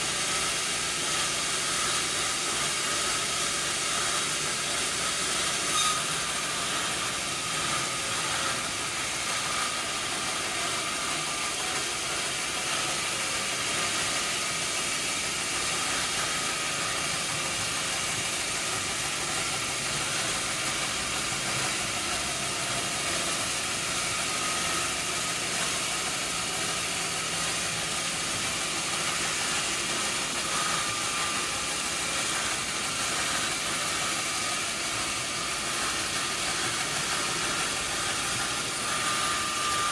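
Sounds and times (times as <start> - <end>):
sawmill machinery rushing: 0.0 - 39.9.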